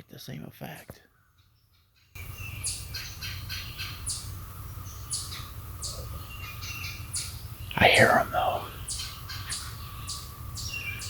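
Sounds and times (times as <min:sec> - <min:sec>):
birds chirping: 0:00.0 - 0:11.0
distant cicadas droning: 0:01.1 - 0:11.0.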